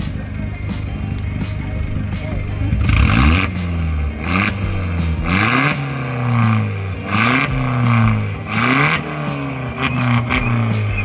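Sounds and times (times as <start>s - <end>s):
car engine revving in blips: 0.0s - 11.0s.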